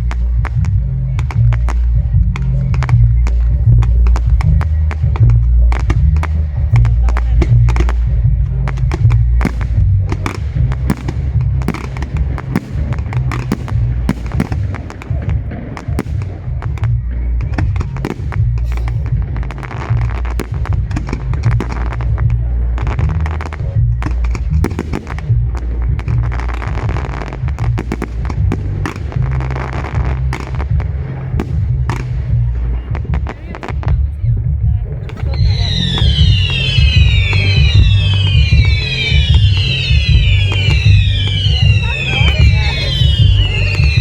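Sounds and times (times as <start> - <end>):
bass-heavy music: 0.0 - 44.0
fireworks bangs and crackles: 0.0 - 44.0.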